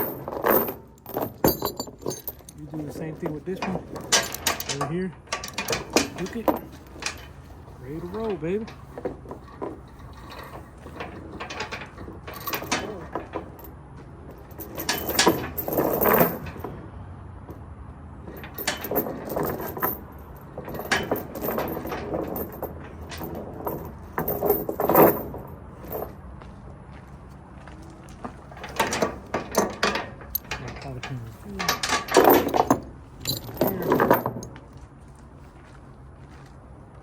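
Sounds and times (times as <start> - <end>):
metal chain clanking and rattling: 0.0 - 17.6, 18.2 - 26.2, 28.2 - 34.8.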